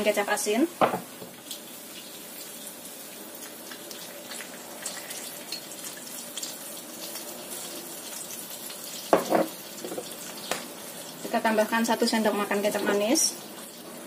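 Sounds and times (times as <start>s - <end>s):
oil sizzling with small pops: 0.0s - 14.0s.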